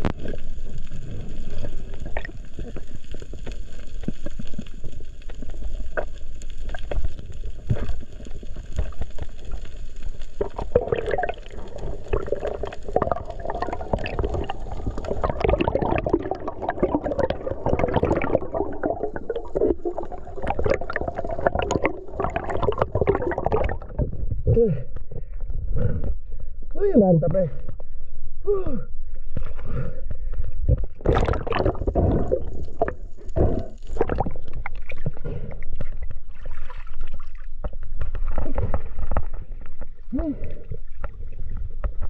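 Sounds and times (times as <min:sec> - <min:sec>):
gurgle breaking the water surface: 0:00.0 - 0:24.9, 0:30.6 - 0:42.0
underwater water rushing and gurgling: 0:00.0 - 0:26.7, 0:29.0 - 0:42.0.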